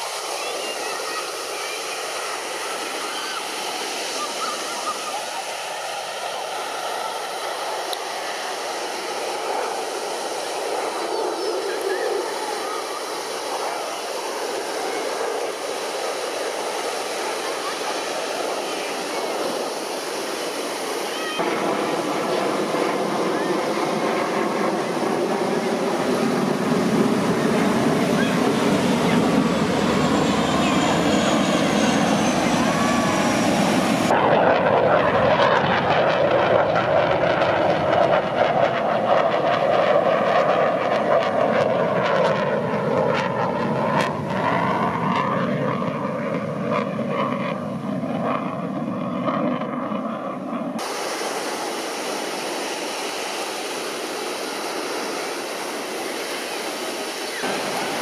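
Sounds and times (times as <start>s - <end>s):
airplane engine drone: 0.0s - 58.0s.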